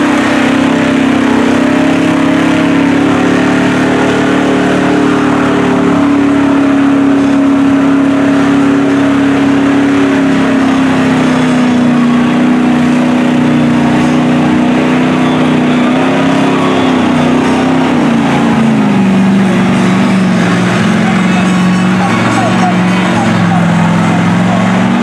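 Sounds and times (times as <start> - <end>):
truck engine at high revs: 0.0 - 25.0
tyres churning mud: 0.0 - 25.0.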